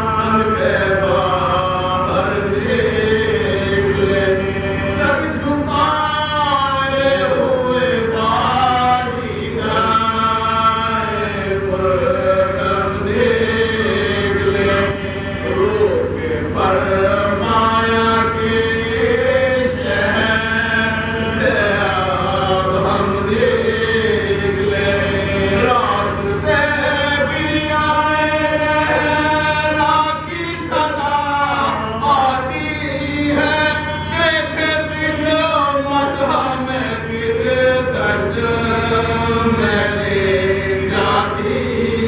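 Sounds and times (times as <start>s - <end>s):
men chanting a mournful elegy: 0.0s - 42.0s.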